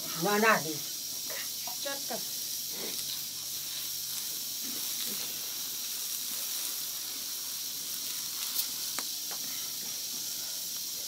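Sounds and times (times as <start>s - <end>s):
fire crackles: 0.0s - 11.0s
wood fire hissing: 0.0s - 11.0s.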